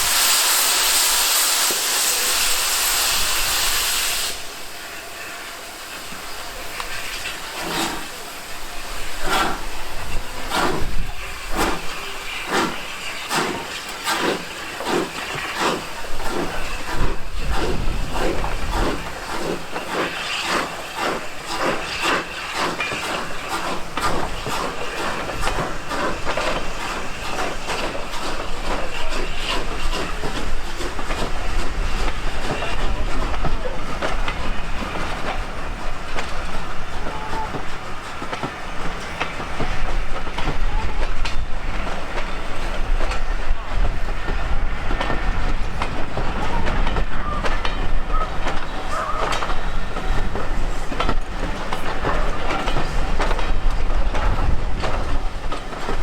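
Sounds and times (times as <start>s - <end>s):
train rumbling past: 0.0s - 56.0s
wheels clicking over rail joints: 9.2s - 56.0s.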